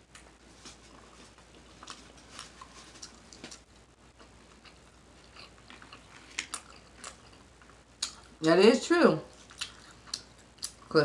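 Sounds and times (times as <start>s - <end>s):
close-miked chewing: 0.1s - 8.4s, 9.3s - 11.0s.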